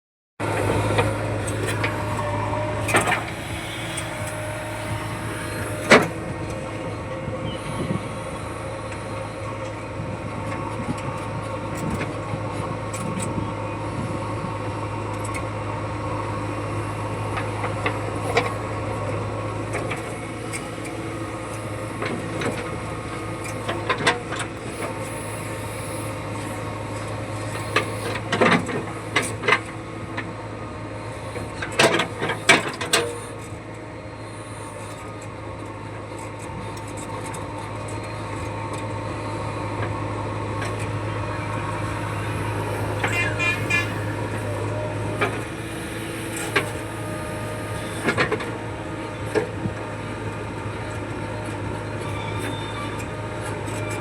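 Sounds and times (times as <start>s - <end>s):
heavy diesel engine running: 0.4s - 54.0s.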